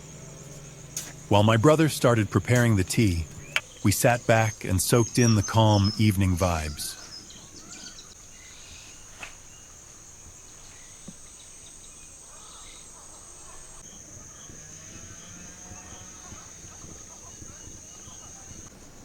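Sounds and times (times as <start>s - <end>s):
faint bird calls: 0.0s - 18.7s
crickets chirring: 0.0s - 19.0s.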